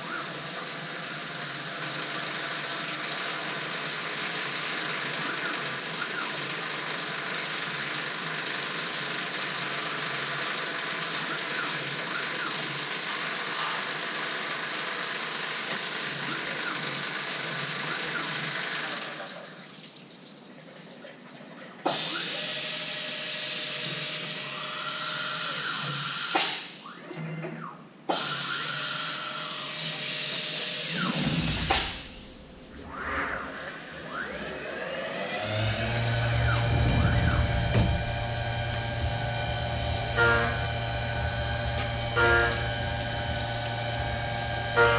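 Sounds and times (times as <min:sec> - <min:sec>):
milling machine hiss and whine: 0:00.0 - 0:19.7, 0:21.8 - 0:27.0, 0:28.1 - 0:44.9.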